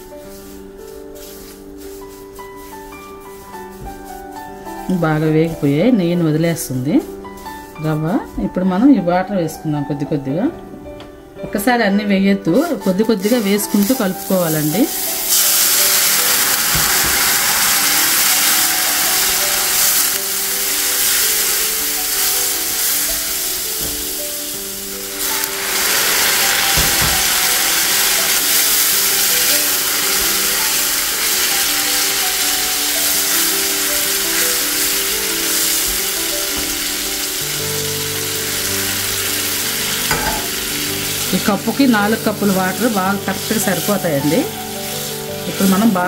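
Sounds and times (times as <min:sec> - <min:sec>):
semolina sizzling in a hot pan: 0:00.0 - 0:09.8, 0:12.4 - 0:46.0
background music with simple melody: 0:00.0 - 0:46.0.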